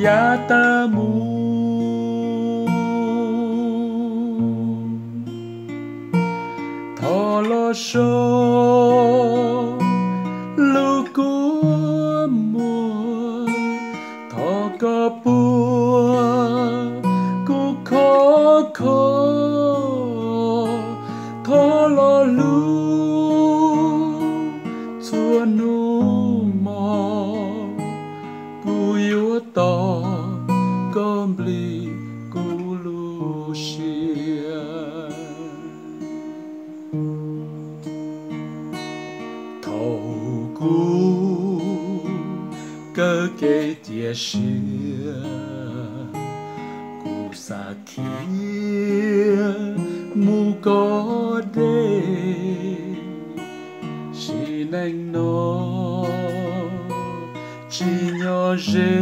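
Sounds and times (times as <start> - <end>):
man singing with vibrato: 0.0 - 36.4, 39.4 - 59.0
acoustic guitar: 0.0 - 59.0.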